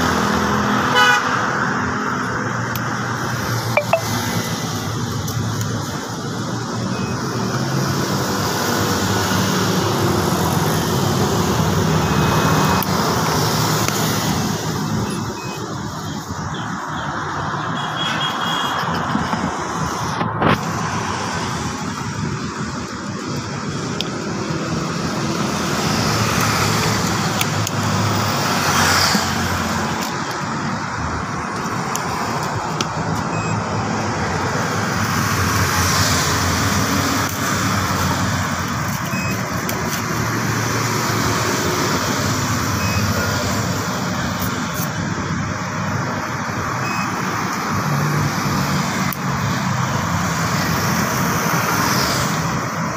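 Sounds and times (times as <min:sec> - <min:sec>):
road traffic engines rumbling: 0:00.0 - 0:52.9.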